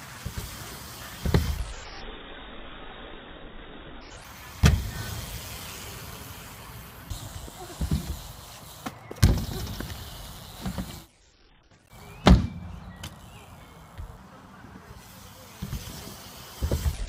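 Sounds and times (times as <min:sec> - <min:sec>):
bikes thudding on ramps: 0:00.0 - 0:02.0, 0:04.1 - 0:11.2, 0:11.8 - 0:17.0
bike tyres rolling: 0:00.0 - 0:17.0.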